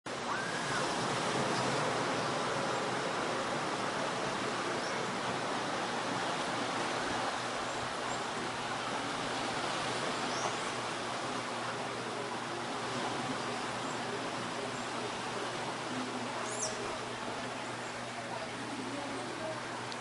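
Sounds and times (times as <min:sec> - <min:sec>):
surf on rocky shore: 0:00.1 - 0:20.0.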